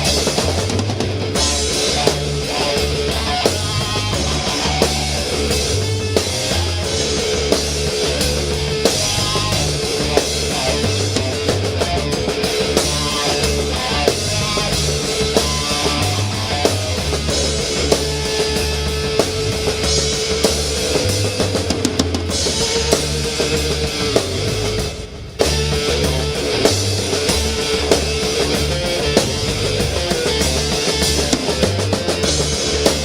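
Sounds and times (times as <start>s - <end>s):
rock music with drums and bass: 0.0s - 33.0s.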